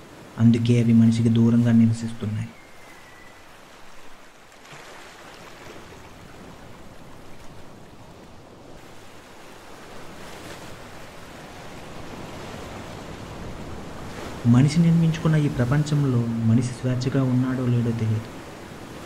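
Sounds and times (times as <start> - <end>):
ocean waves washing ashore: 0.0 - 19.0.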